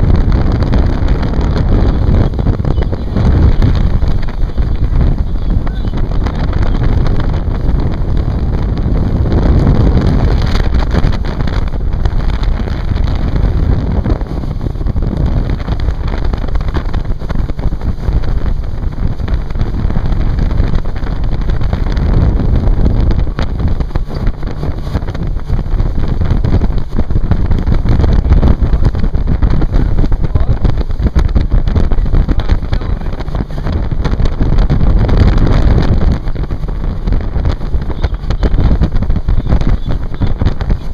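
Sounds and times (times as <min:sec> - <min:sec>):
motorboat motor running: 0:00.0 - 0:40.9
wind buffeting microphone: 0:00.0 - 0:40.9.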